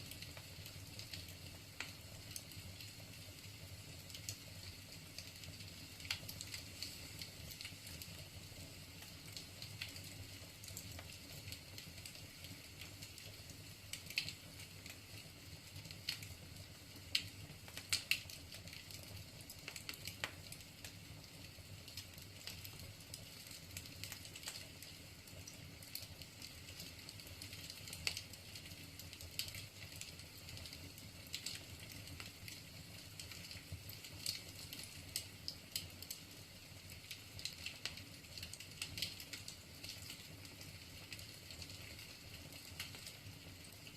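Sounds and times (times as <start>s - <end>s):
logs crackling and popping: 0.0s - 43.9s.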